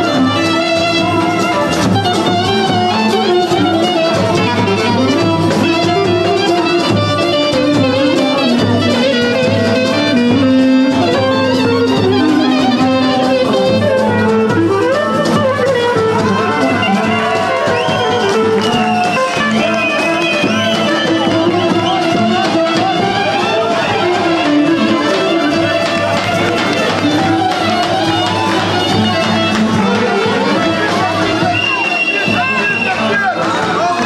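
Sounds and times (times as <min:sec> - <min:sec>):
steady musical accompaniment: 0:00.0 - 0:34.0
wind instrument melody: 0:00.0 - 0:34.0.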